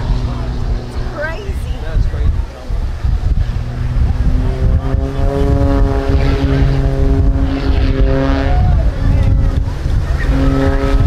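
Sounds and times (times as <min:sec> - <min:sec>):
propeller plane droning overhead: 0:00.0 - 0:11.0
wind buffeting on microphone: 0:00.0 - 0:11.0.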